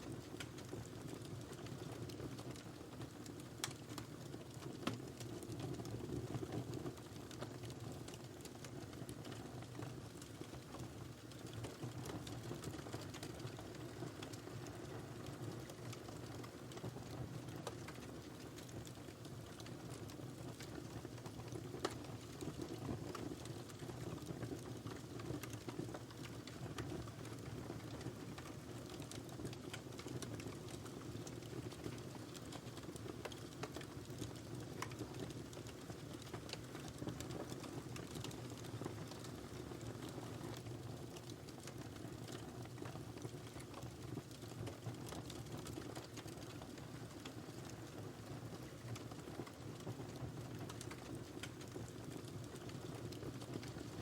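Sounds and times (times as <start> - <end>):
fire crackles and pops: 0.0 - 54.0.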